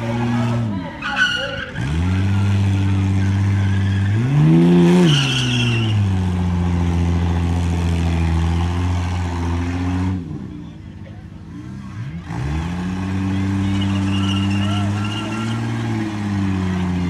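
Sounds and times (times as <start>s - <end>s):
car engine revving high: 0.0s - 10.6s, 11.5s - 17.0s.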